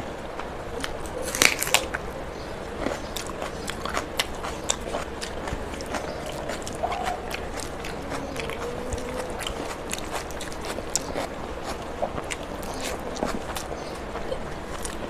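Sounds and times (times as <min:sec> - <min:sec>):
chewing rice: 0:02.7 - 0:15.0.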